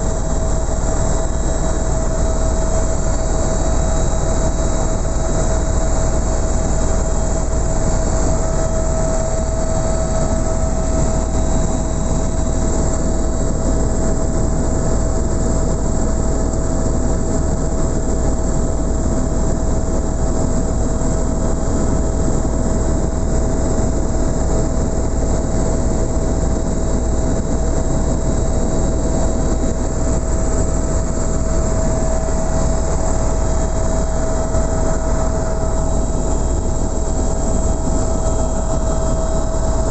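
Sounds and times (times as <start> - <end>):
constant whine: 0.0 - 39.9
helicopter engine and rotor drone: 0.0 - 39.9.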